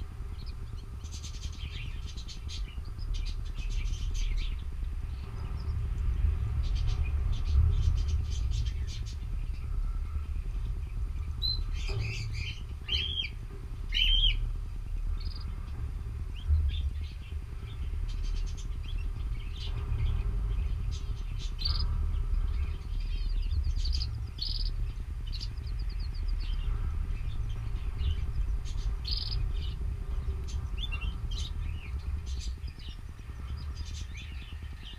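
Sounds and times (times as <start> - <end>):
canaries chirping: 0.0 - 34.9
steady low rumble: 0.0 - 34.9.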